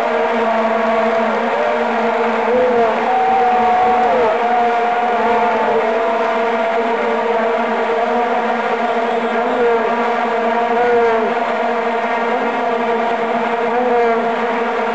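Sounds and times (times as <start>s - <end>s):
crowd blowing vuvuzelas: 0.0s - 14.9s.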